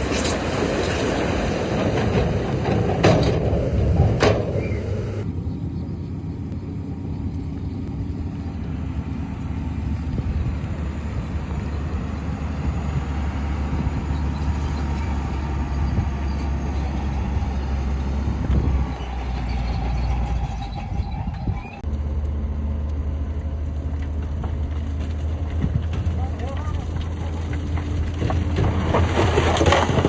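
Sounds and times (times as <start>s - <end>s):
heavy diesel machinery engine drone: 0.0s - 30.0s.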